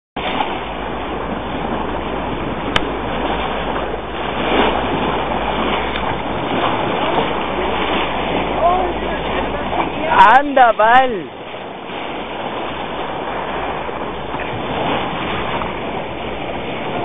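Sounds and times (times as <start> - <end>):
low steady rumble: 0.2 - 17.0
sea water noise: 0.2 - 17.0.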